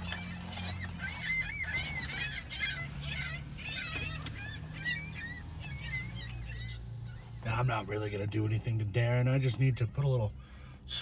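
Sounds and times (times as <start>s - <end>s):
gulls calling: 0.0s - 9.1s.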